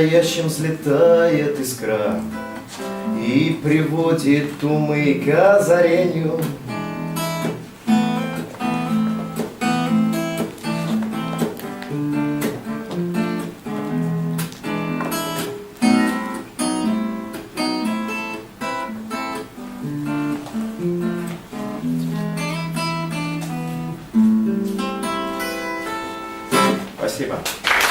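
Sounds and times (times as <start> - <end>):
acoustic guitar strumming chords: 0.0 - 27.4.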